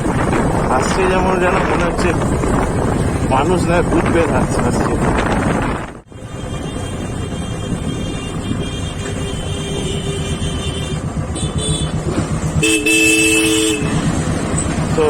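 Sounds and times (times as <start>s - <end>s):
motorcycle engine rumbling: 0.0s - 15.0s
road traffic noise: 0.0s - 15.0s.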